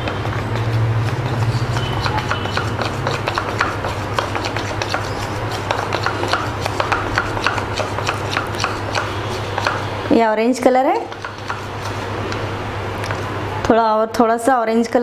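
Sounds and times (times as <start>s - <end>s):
spoon stirring batter in bowl: 0.0s - 10.2s, 11.0s - 13.2s.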